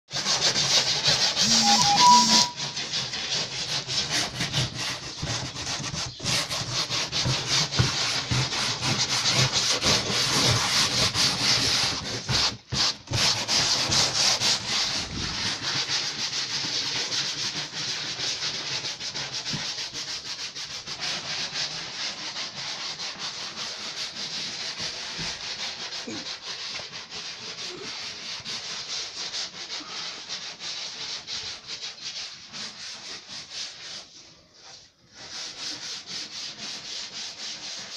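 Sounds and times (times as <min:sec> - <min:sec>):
sponge scrubbing foam: 0:00.1 - 0:37.9.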